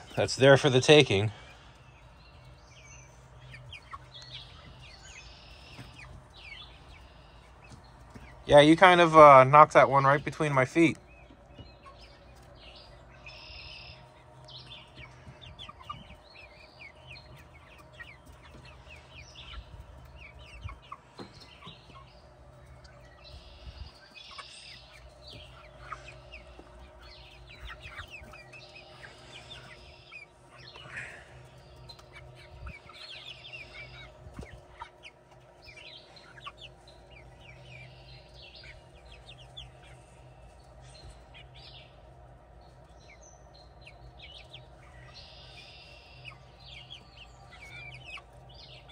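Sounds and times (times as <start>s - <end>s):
chickens clucking and chirping: 0.0s - 48.9s.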